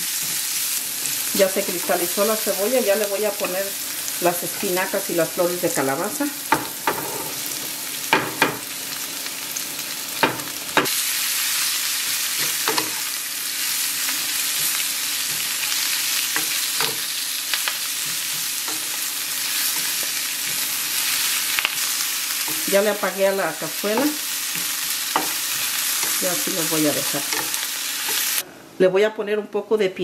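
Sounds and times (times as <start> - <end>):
vegetables sizzling in a pan: 0.0 - 28.4.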